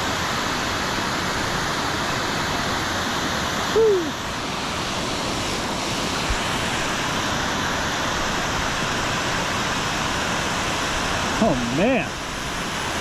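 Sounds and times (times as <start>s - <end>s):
fast-flowing creek water: 0.0s - 13.0s.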